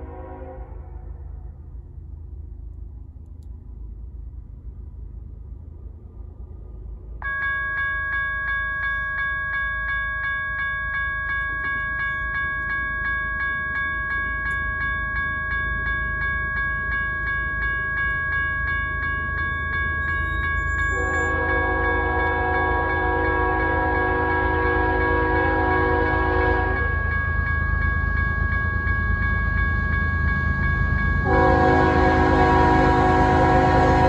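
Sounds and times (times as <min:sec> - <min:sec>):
railroad crossing bell ringing: 0:00.0 - 0:02.0, 0:07.1 - 0:34.0.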